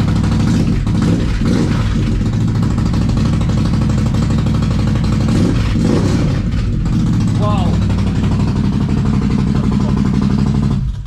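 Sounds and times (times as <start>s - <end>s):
deep bassy engine running: 0.0s - 11.0s.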